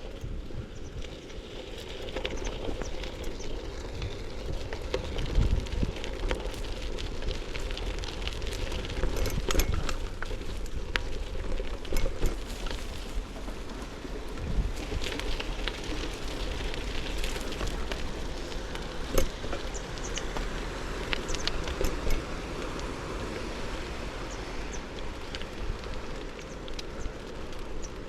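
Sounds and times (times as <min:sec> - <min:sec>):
bicycle tyres on dirt path: 0:00.0 - 0:28.0.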